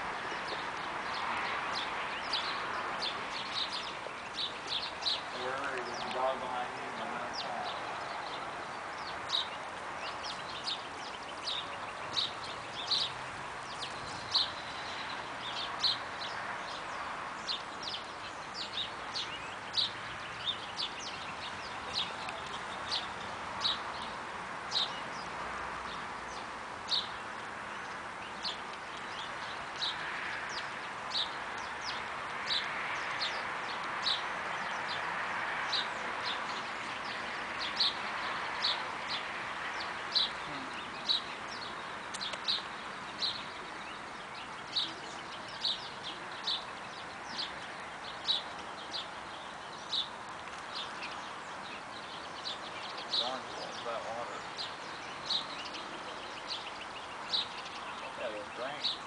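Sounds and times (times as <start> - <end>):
bird chirping: 0.0 - 59.0
outdoor background hiss: 0.0 - 59.0.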